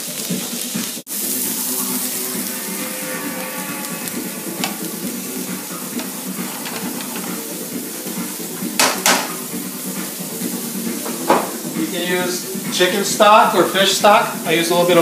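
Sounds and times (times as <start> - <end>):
shrimp sizzling in a frying pan: 0.0 - 15.0.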